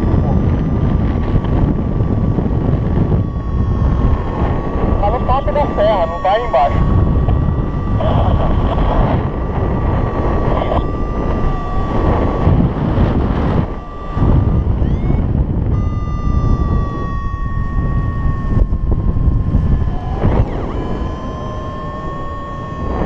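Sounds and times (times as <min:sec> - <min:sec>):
high electronic tone: 0:00.0 - 0:23.0
wind buffeting microphone: 0:00.0 - 0:23.0.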